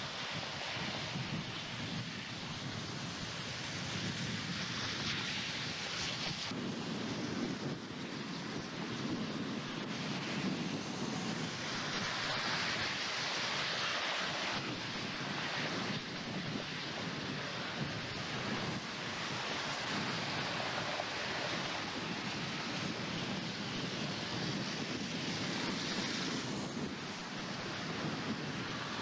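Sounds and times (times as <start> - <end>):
strong wind blowing: 0.0 - 29.0
wind gusts hitting microphone: 0.0 - 29.0.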